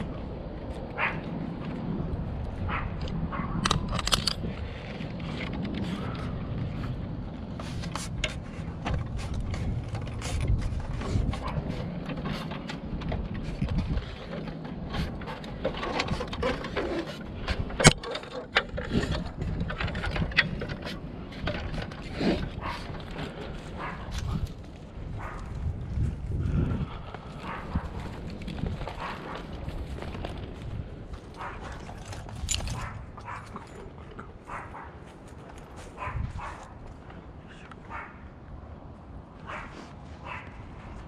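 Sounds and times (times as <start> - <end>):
hand tools clicking and clanking: 0.0 - 25.4, 26.8 - 38.0.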